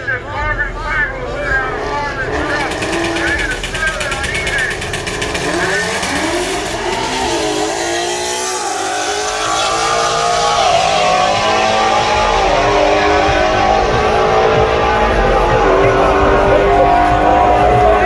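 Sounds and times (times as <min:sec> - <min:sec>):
racing car engines accelerating: 0:00.0 - 0:18.0.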